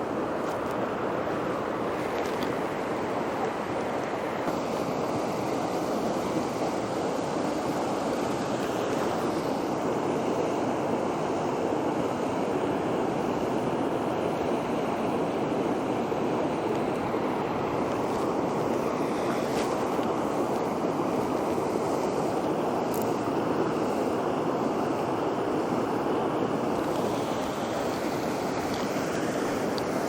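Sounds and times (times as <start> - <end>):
stream water tumbling over rocks: 0.0 - 30.0.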